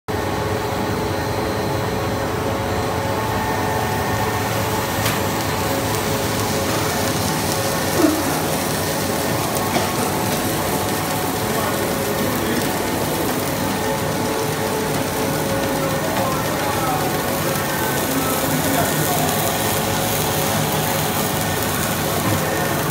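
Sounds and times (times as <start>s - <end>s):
extruder machine running: 0.1s - 22.9s.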